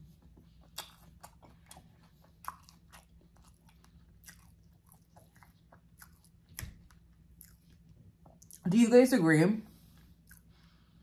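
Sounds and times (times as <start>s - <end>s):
chewing with wet mouth smacks: 0.0s - 8.6s, 10.0s - 11.0s.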